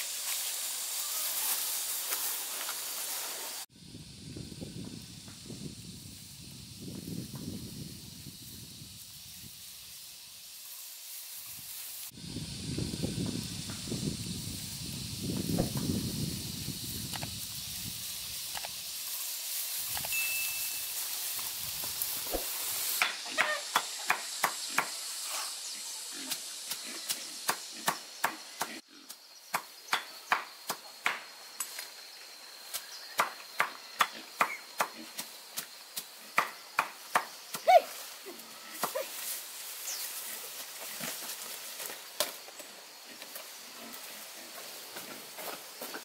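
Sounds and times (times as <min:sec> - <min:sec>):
steady high hiss: 0:00.0 - 0:46.0.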